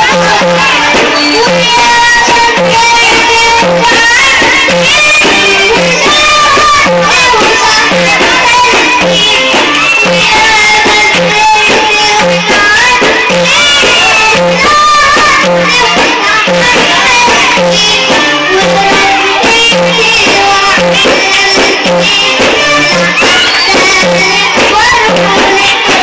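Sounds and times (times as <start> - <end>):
song with instrumental backing: 0.0 - 26.0.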